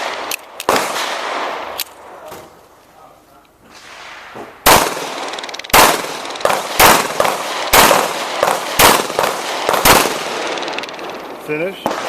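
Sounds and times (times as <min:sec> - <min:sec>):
pistol shots with echo: 0:00.0 - 0:01.8, 0:03.8 - 0:12.0.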